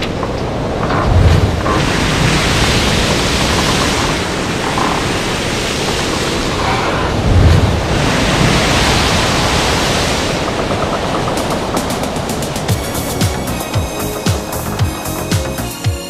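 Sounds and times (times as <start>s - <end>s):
low rumbling surge: 0.0s - 15.3s.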